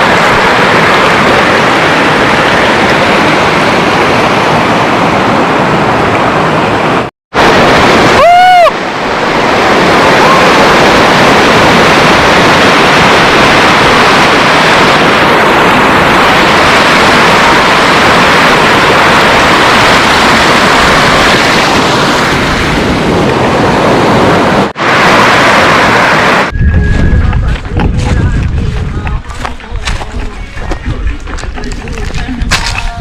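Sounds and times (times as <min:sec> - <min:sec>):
rushing river water: 0:00.0 - 0:26.5.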